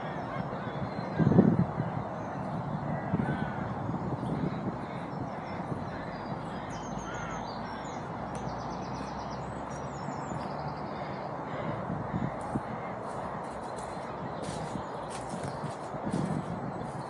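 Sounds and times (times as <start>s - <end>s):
low gliding bird calls: 0.0s - 17.0s
outdoor background noise: 0.0s - 17.0s
small birds chirping and trilling: 0.0s - 17.0s.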